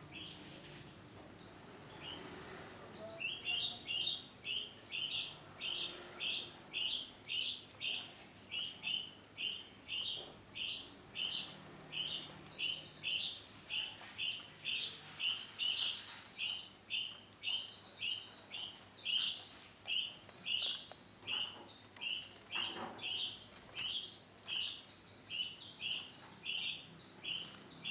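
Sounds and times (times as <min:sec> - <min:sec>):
canary chirping: 0:00.0 - 0:27.9.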